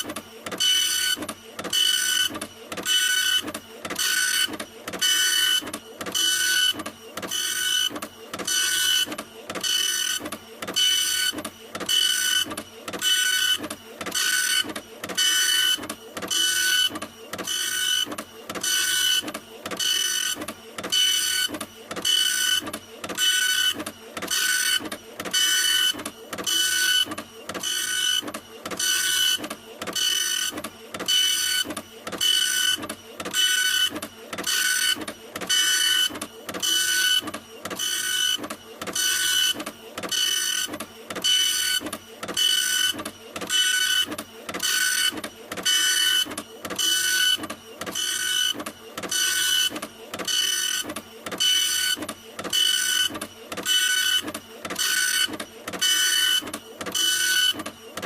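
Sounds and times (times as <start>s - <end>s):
printer carriage moving: 0.0s - 58.0s.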